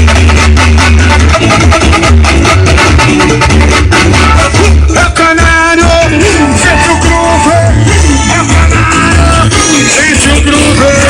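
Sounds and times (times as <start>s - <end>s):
heavy pulsing bass: 0.0s - 11.0s
latin music with guitar: 0.0s - 11.0s.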